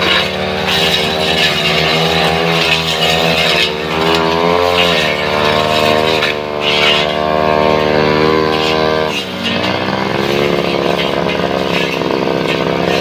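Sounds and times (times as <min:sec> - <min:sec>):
blade cutting wood: 0:00.0 - 0:13.0
brush cutter running: 0:00.0 - 0:13.0.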